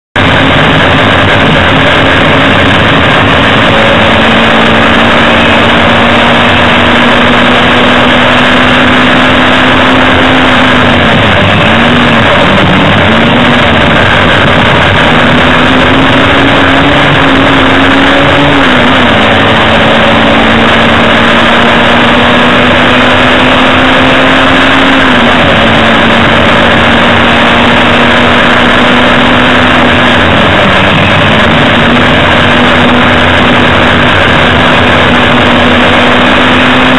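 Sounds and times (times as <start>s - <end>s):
road and wind noise: 0.0s - 36.9s
race car engine revving high: 0.1s - 36.9s.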